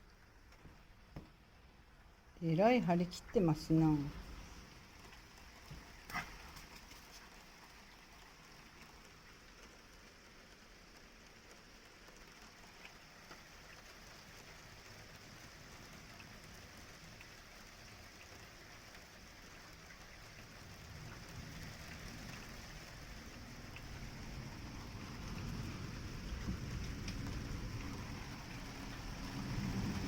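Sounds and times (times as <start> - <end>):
light rain falling: 0.0 - 30.0.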